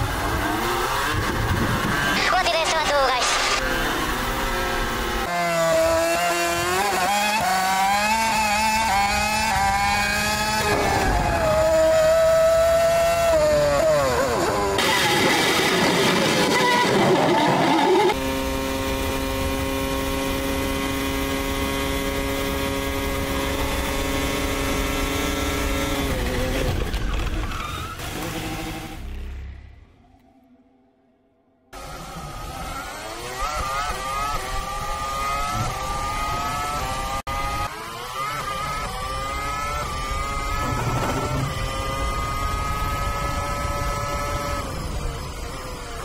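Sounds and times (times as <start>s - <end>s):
racing car engine: 0.0s - 30.3s, 31.7s - 46.0s.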